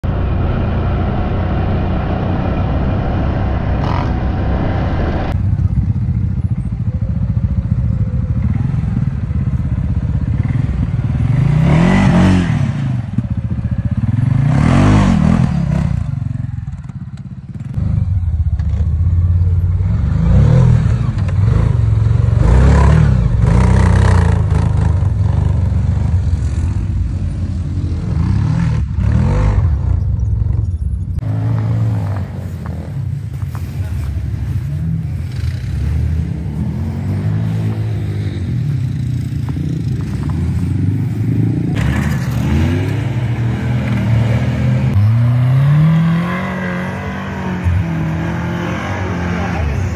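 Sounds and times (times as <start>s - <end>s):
quad bike engines revving: 0.0s - 49.9s.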